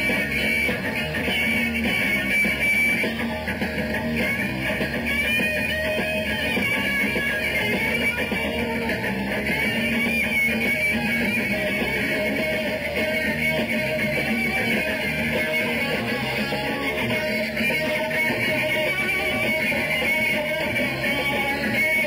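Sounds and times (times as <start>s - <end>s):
electric guitar: 0.0s - 22.0s
live rock band playing: 0.0s - 22.0s.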